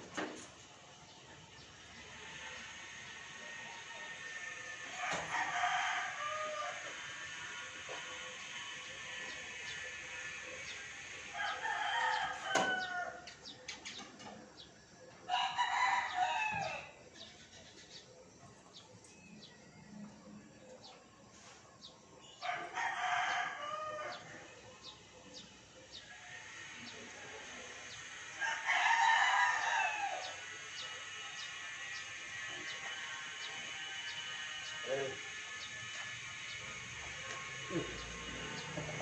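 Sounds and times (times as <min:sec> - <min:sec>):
roosters crowing: 0:00.0 - 0:39.0.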